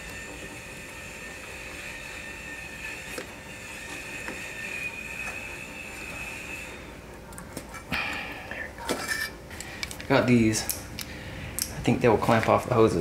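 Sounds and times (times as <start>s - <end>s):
steady high-pitched whine: 0.0s - 13.0s.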